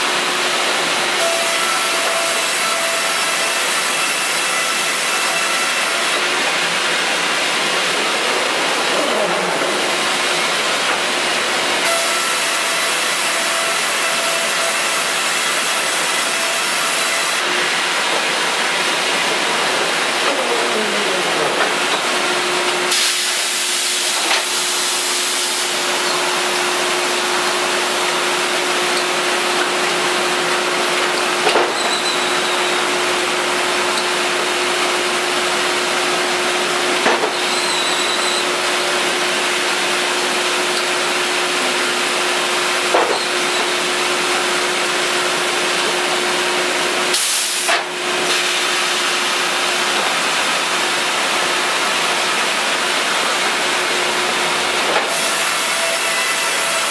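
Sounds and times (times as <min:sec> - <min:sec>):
machine humming and hissing: 0:00.0 - 0:56.9.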